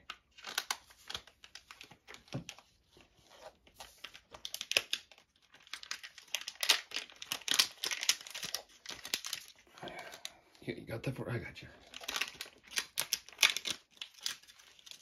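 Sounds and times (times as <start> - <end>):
wrapper crinkling and tearing: 0.0 - 10.6, 11.8 - 15.0.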